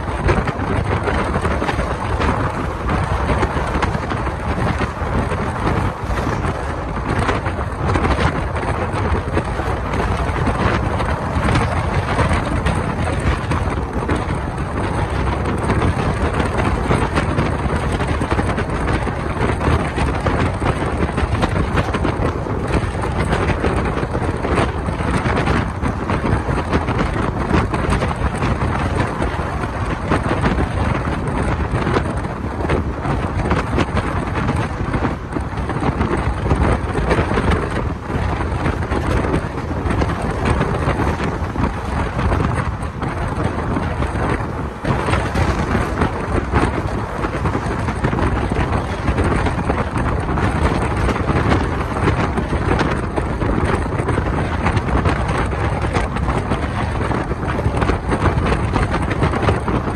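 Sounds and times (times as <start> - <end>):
train wheels rumbling on rails: 0.0 - 59.9
wind noise on microphone: 0.0 - 59.9.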